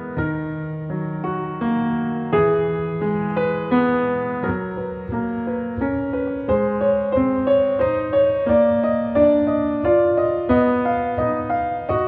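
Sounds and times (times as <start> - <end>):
gentle keyboard melody: 0.0 - 12.0.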